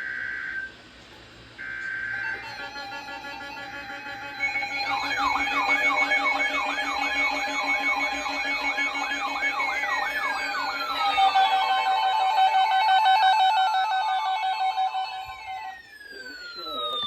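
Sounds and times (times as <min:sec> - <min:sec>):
siren warbling: 0:01.6 - 0:17.0.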